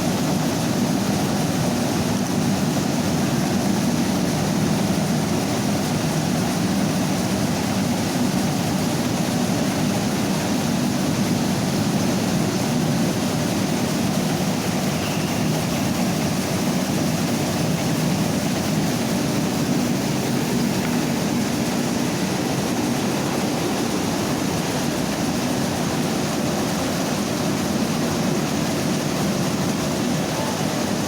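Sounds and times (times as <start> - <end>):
rice milling machine running: 0.0 - 31.0.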